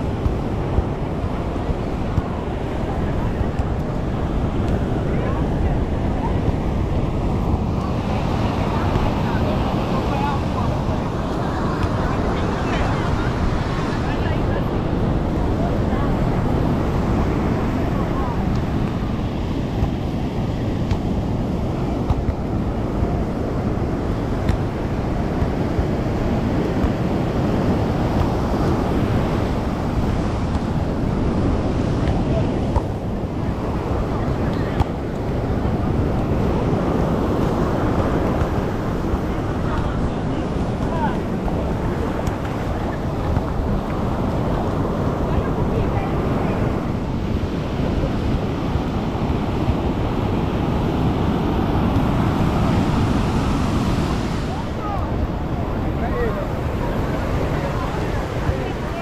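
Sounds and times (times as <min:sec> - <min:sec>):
ocean surf breaking on beach: 0:00.0 - 0:59.0
wind buffeting microphone: 0:00.0 - 0:59.0.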